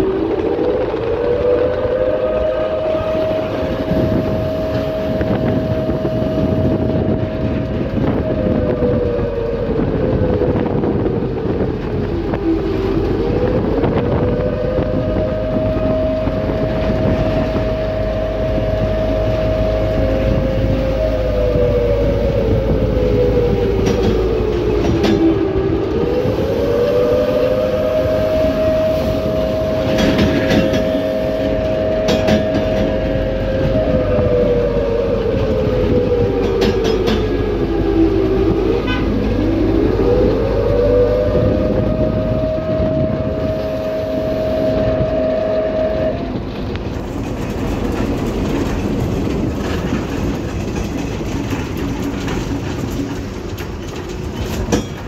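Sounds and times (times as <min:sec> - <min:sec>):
vehicle low rumble: 0:00.0 - 0:55.0
vehicle whine: 0:00.0 - 0:55.0.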